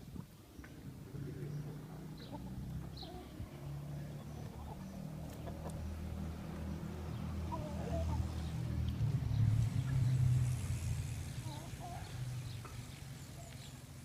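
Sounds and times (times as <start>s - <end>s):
vehicle engine hum: 0.8s - 14.0s.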